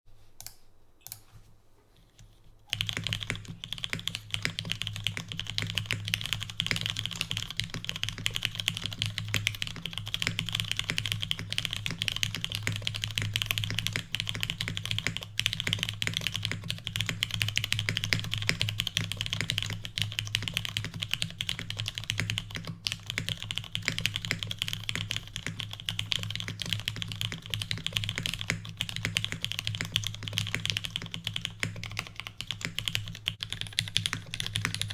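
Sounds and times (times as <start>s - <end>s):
mechanical keyboard typing: 2.7s - 34.9s.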